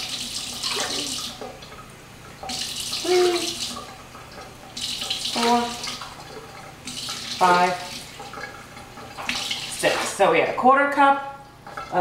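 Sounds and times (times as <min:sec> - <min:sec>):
faucet running water into cup: 0:00.0 - 0:10.6.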